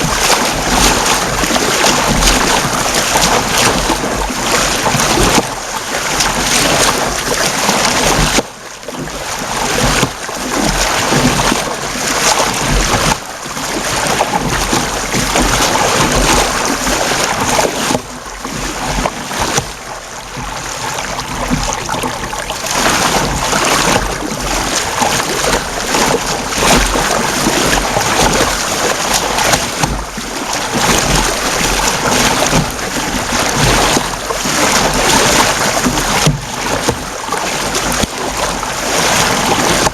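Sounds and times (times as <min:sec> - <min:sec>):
water splashing around kayak: 0:00.0 - 0:39.9.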